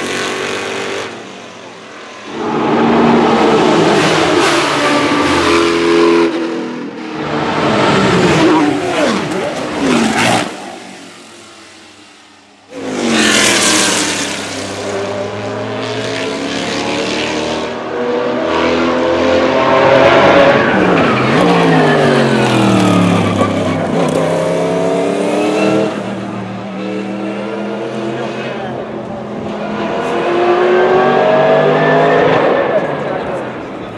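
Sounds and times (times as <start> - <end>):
race car engines at high revs: 0.0 - 33.9.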